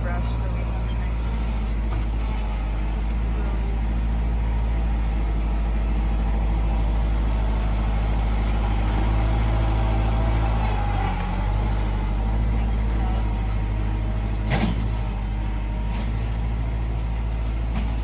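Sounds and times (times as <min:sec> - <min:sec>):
tractor engine running steadily: 0:00.0 - 0:18.0.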